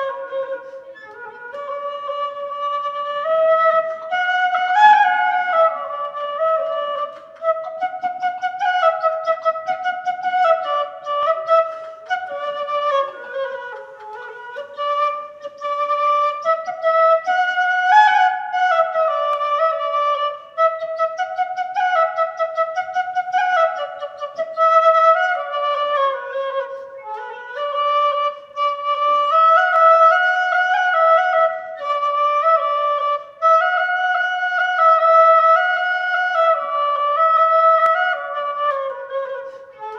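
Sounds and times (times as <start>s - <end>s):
woodwind solo melody: 0.0s - 39.9s.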